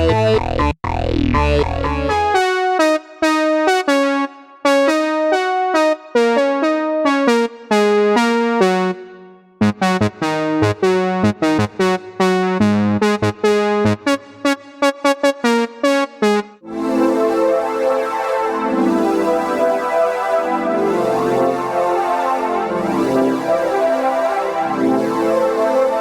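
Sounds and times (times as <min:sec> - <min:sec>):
synthesizer bass notes: 0:00.0 - 0:04.0, 0:04.7 - 0:26.0
synthesizer electric piano notes: 0:00.0 - 0:26.0.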